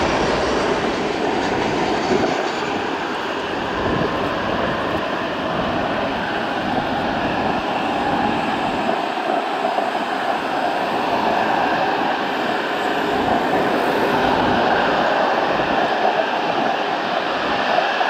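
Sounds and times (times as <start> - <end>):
jet engines at taxi power: 0.0 - 18.0.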